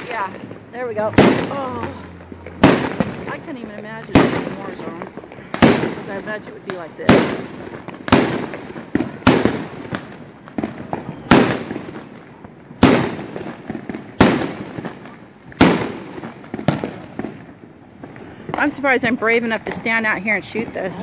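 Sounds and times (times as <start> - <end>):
small firework pops: 0.0 - 18.8
firework shells booming: 0.0 - 21.0.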